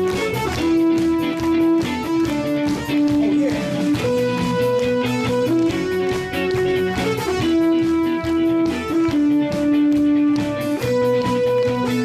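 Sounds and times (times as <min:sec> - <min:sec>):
drum beat: 0:00.0 - 0:12.0
rock band playing: 0:00.0 - 0:12.0.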